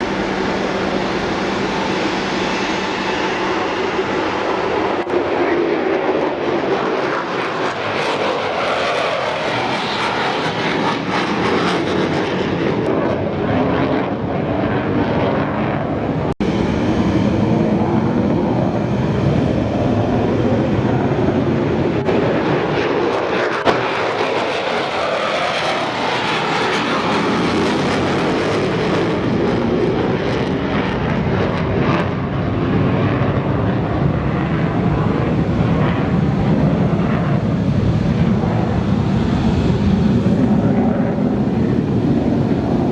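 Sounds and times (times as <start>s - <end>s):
jet roar passing by: 0.0s - 42.9s.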